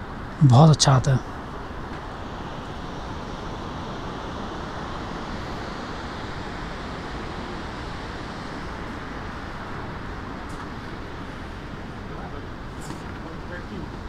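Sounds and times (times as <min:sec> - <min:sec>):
rushing outdoor ambience: 0:00.0 - 0:14.0.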